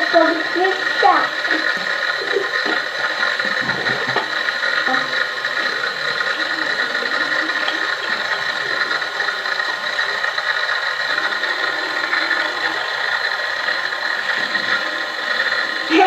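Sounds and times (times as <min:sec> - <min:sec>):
small motor humming: 0:00.0 - 0:16.0.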